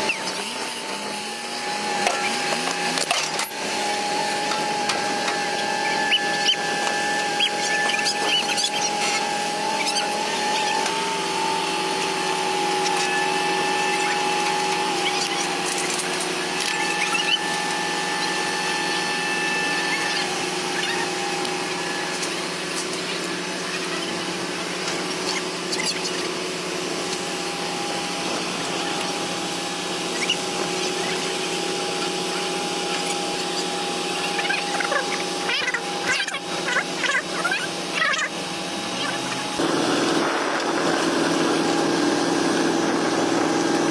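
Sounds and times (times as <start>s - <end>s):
machine whine: 0.0s - 43.9s.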